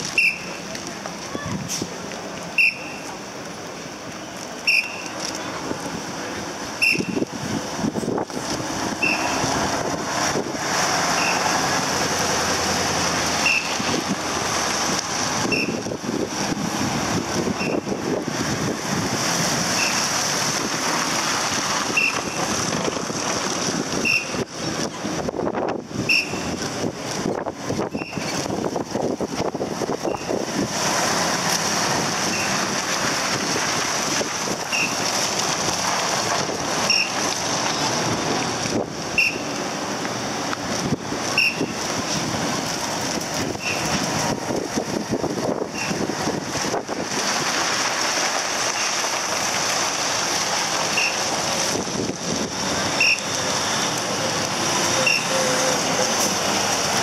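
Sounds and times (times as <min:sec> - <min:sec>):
heavy trucks driving past: 0:00.0 - 0:57.0.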